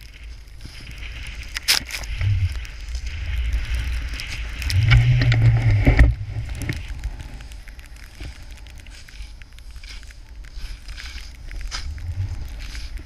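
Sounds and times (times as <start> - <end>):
wind buffeting microphone: 0.0 - 9.2, 9.8 - 13.0
snowboard scraping through snow: 0.1 - 13.0.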